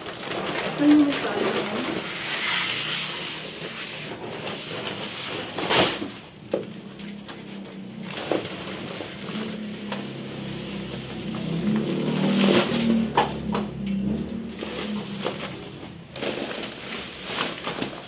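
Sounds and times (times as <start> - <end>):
plastic sack rustling: 0.0 - 13.2, 14.1 - 18.0.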